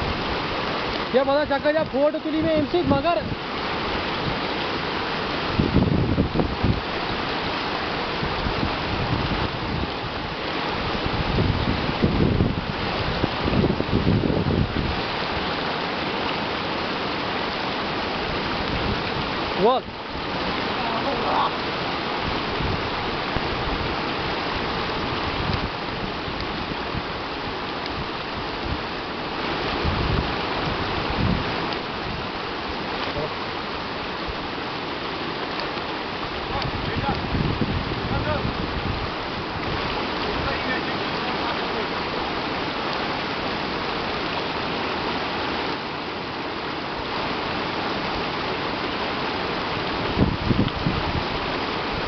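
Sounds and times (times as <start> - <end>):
creek rushing over rocks: 0.0 - 52.0
river running over stones: 0.0 - 52.0.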